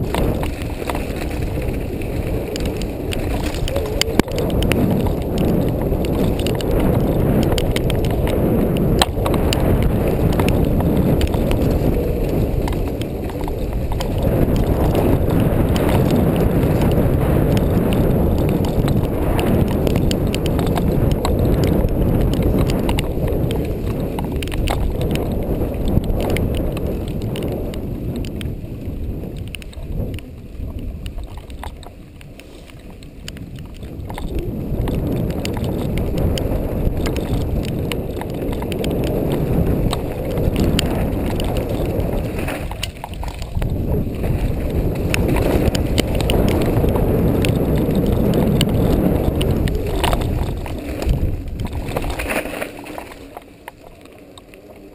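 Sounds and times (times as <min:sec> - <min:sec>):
bike clicks and rattles: 0:00.0 - 0:54.9
tyres rumbling on trail: 0:00.0 - 0:54.9
wind on microphone: 0:00.0 - 0:54.9.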